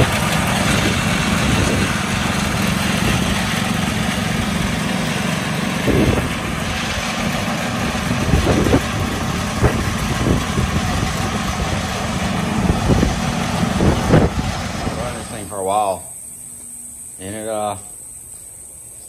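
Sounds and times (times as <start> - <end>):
riding mower engine running: 0.0 - 19.0.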